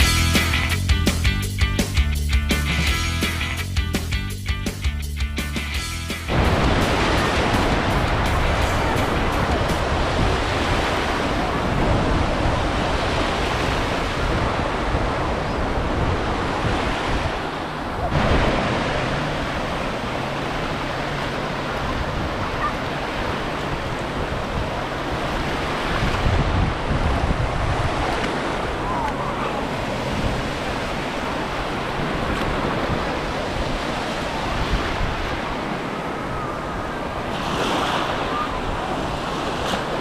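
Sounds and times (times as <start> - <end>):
wind on microphone: 6.3 - 40.0.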